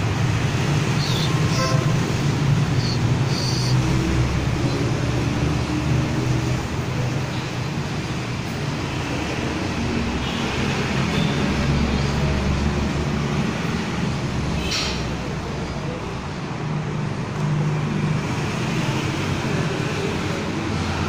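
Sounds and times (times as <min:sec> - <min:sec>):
engine hum and road noise: 0:00.0 - 0:21.0
motorcycles and cars passing: 0:00.0 - 0:21.0.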